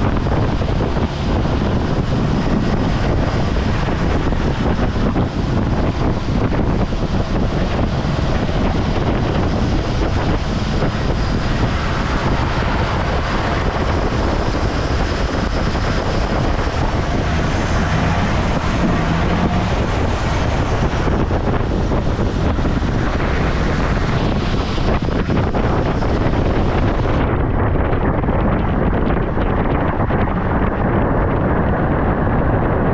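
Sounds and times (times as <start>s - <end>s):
motorboat running: 0.0s - 32.9s
wind buffeting microphone: 0.0s - 32.9s.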